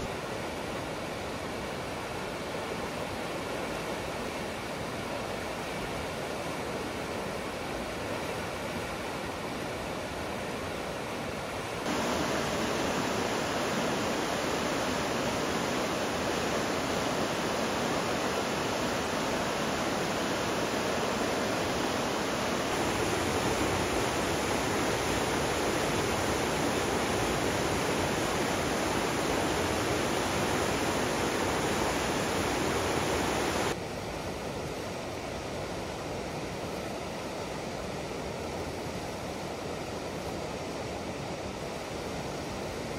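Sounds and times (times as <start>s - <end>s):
river rapids roaring: 0.0s - 42.9s.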